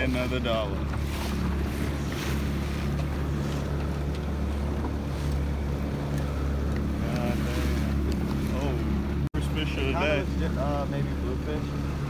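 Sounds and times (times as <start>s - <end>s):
boat motor humming: 0.0s - 12.0s
water rushing along hull: 0.0s - 12.0s.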